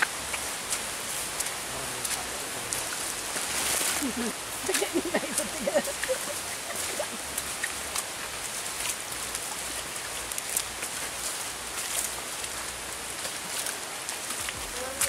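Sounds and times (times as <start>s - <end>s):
light rain pattering on leaves: 0.0s - 15.0s.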